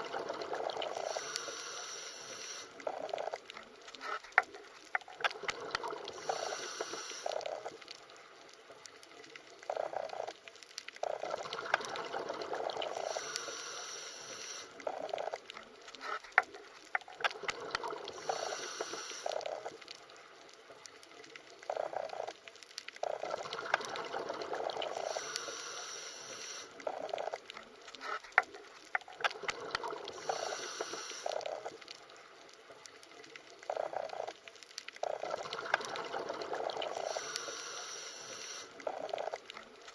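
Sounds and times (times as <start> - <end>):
underwater bubbling and gurgling: 0.0 - 39.9
small clicks: 1.0 - 12.0, 13.0 - 24.0, 24.9 - 39.9.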